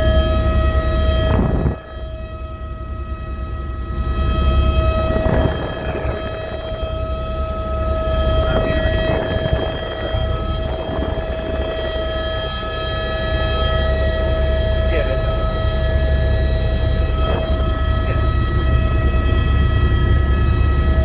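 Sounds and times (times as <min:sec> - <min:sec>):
helicopter turbine whine: 0:00.0 - 0:21.0
rotor blades beating: 0:03.9 - 0:21.0.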